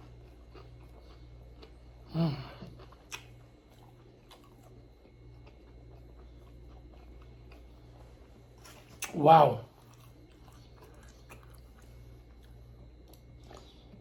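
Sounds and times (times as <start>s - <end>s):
quiet chewing: 0.0s - 14.0s
steady low hum: 0.0s - 14.0s.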